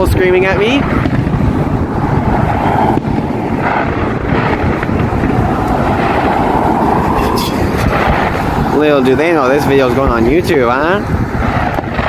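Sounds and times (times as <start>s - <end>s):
outdoor background din: 0.0s - 12.0s
wind rumbling on microphone: 0.0s - 12.0s.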